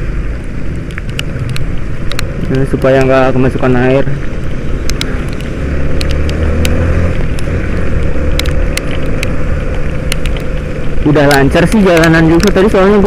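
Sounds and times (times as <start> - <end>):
motorcycle engine drone: 0.0 - 13.0
wind and road noise: 0.0 - 13.0
sharp ticks: 0.4 - 13.0.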